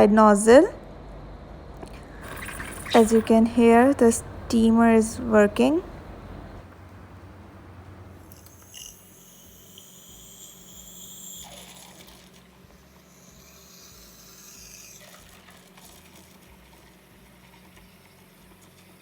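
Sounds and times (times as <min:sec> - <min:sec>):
steam wand hissing frothing milk: 0:02.0 - 0:06.6, 0:08.1 - 0:19.0.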